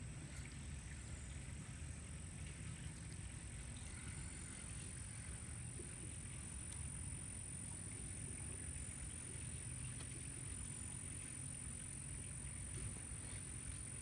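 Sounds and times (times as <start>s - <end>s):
constant low rumble: 0.0s - 14.0s.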